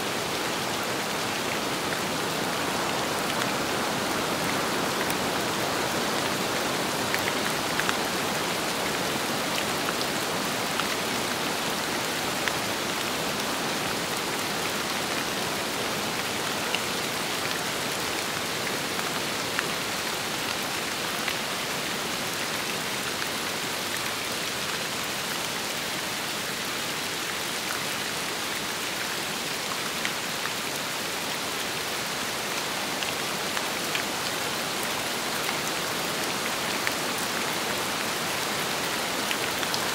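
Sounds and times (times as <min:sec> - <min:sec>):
steady rain in wind: 0:00.0 - 0:39.9.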